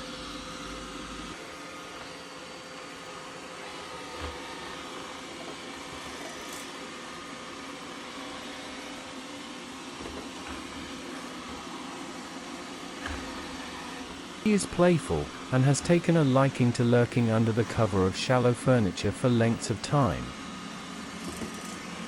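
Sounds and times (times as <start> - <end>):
robotic vacuum cleaner whirring: 0.0 - 22.0.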